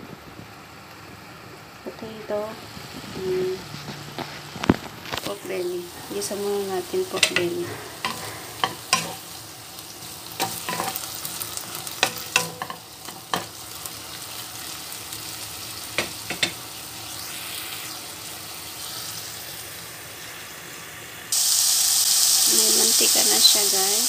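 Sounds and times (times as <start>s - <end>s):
meat sizzling in a frying pan: 0.6s - 24.0s.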